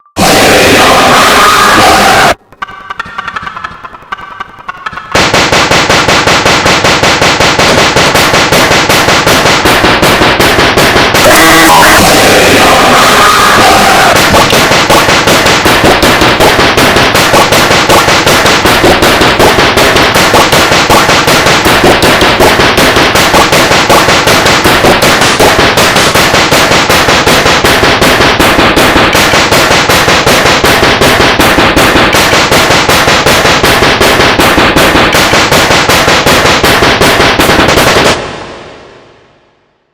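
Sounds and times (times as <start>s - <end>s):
distorted looped sound sample: 0.0s - 39.3s.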